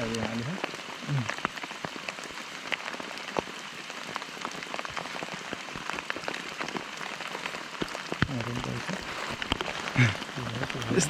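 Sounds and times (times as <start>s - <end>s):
heavy rain: 0.0s - 11.0s
raindrops pattering close by: 0.0s - 11.0s.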